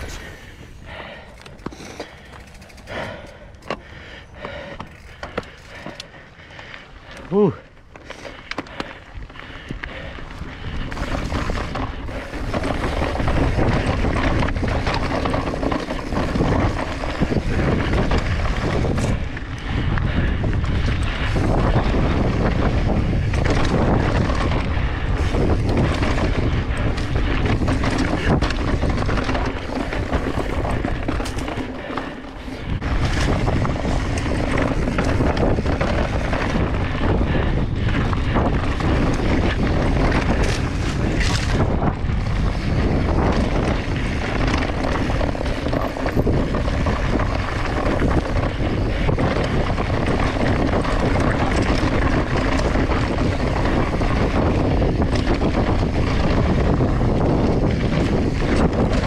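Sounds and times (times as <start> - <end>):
tyres rolling over dirt and rock: 0.0 - 2.9, 10.0 - 59.0
bike rattling over bumps: 0.0 - 59.0
wind buffeting microphone: 0.0 - 59.0.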